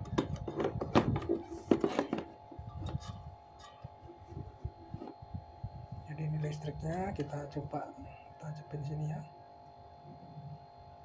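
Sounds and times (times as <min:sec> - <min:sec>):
faint multi-tone hum: 0:00.0 - 0:11.0.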